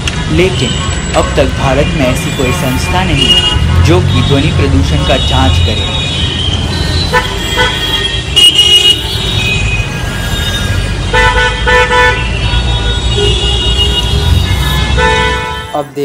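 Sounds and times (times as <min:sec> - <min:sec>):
low rumble of traffic: 0:00.0 - 0:16.0
car horns honking: 0:00.4 - 0:16.0.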